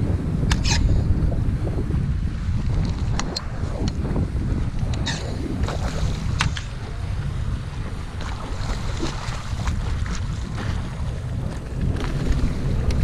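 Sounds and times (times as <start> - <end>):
water moving around kayak: 0.0 - 13.0
wind buffeting microphone: 0.0 - 13.0.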